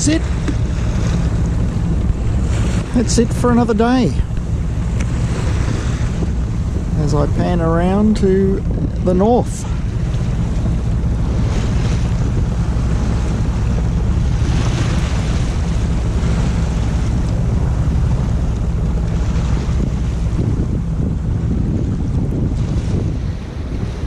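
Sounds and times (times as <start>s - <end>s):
boat engine droning: 0.0s - 24.0s
sea water rushing: 0.0s - 24.0s
wind on microphone: 0.0s - 24.0s.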